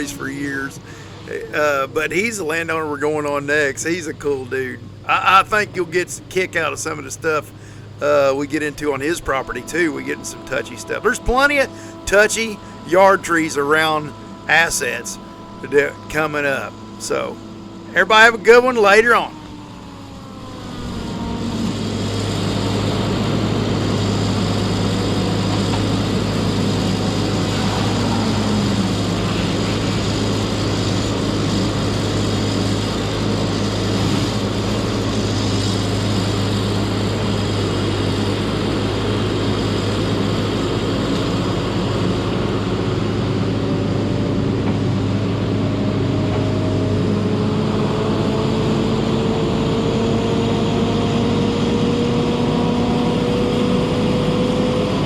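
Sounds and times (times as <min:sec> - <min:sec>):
diesel engine running hard: 0:00.0 - 0:55.0
whining tones shifting in pitch: 0:00.0 - 0:55.0.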